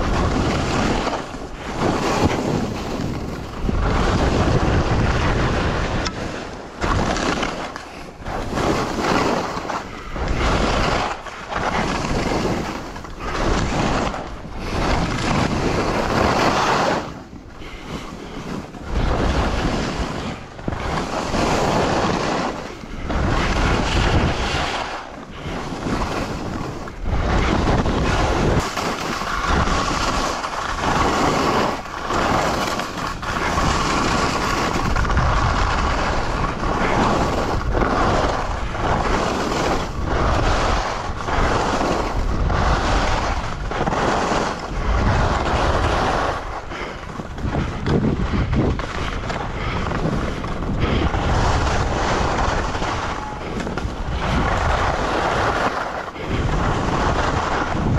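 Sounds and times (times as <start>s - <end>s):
skis hissing and scraping on snow: 0.0s - 57.9s
wind rushing over microphone: 0.0s - 57.9s.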